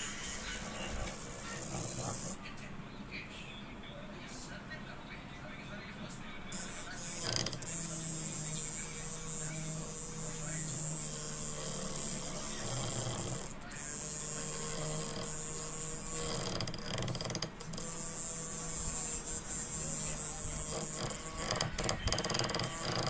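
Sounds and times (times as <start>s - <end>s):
grinding wheel scraping steel: 0.0s - 2.4s, 6.6s - 23.0s
small motor humming: 0.0s - 2.4s, 6.5s - 23.0s.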